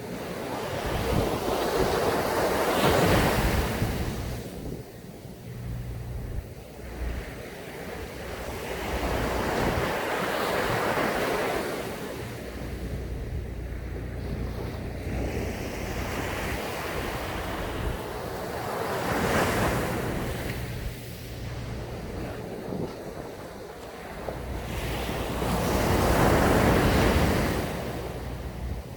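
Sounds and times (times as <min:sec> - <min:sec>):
ocean waves breaking on beach: 0:00.0 - 0:28.9
wind buffeting microphone: 0:00.0 - 0:28.9.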